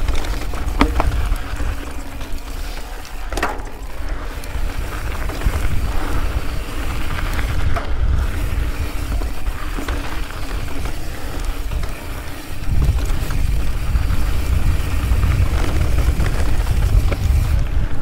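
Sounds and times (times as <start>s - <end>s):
bike clacking over rocks: 0.0s - 17.5s
wind buffeting on microphone: 0.0s - 18.0s.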